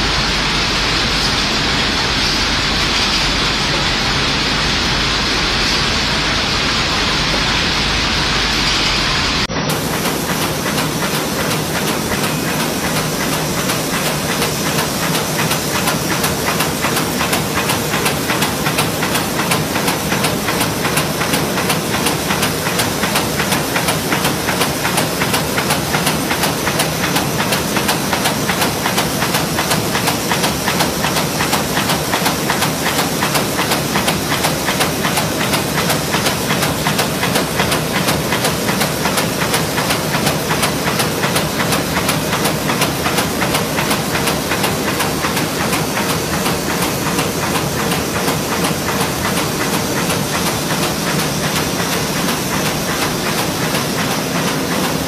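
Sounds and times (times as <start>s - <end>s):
coating machine running: 0.0s - 55.0s.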